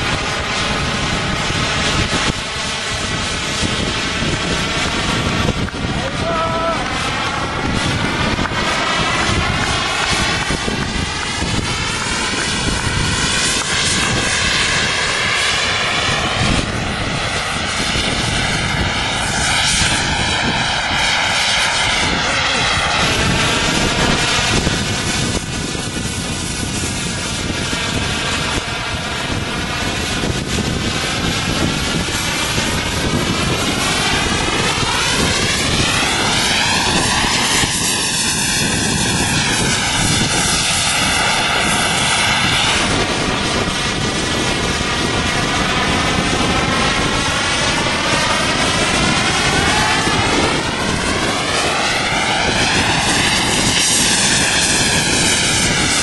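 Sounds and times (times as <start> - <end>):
model jet engine rushing: 0.0 - 56.0.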